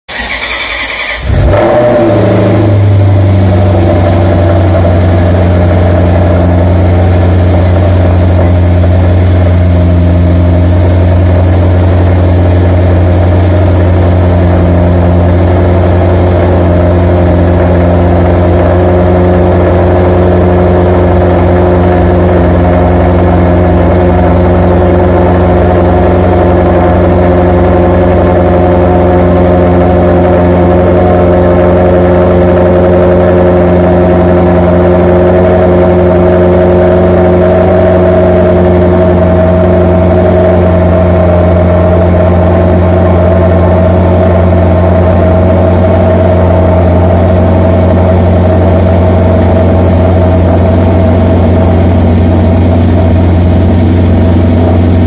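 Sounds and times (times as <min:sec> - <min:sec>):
car engine cold start and idle: 0:00.1 - 0:55.0.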